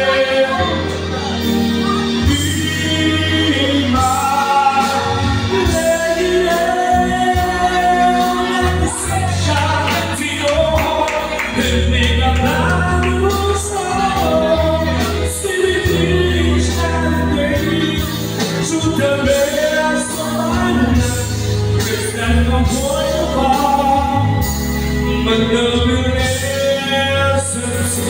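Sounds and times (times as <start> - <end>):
backing music with bass: 0.0 - 28.0
man singing into microphone: 0.0 - 28.0.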